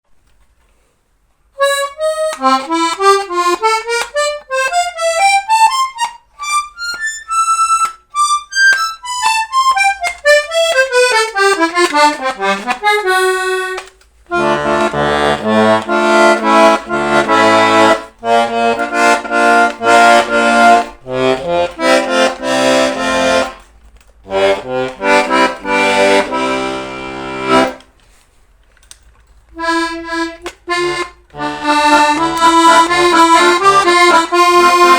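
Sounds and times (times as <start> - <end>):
button accordion: 1.6 - 28.2, 29.5 - 34.9.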